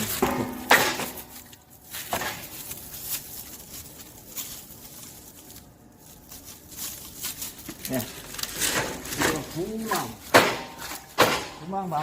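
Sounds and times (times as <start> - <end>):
plastic netting rustling: 0.0 - 11.9.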